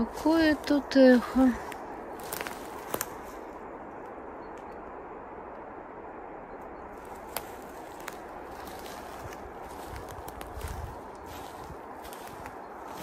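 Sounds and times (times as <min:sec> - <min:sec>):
low rushing roar: 0:00.0 - 0:13.0.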